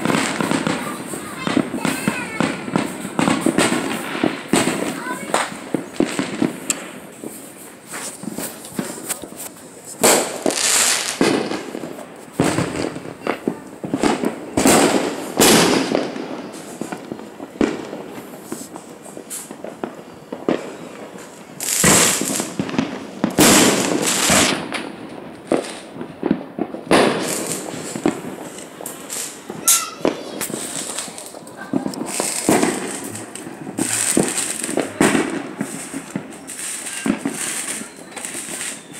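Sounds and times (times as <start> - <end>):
fireworks bangs: 0.0 - 38.9
fireworks crackling and hissing: 0.0 - 38.9.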